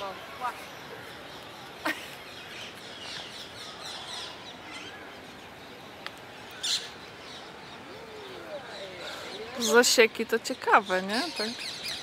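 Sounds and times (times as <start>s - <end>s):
birds chirping: 0.0s - 12.0s
outdoor background hiss: 0.0s - 12.0s.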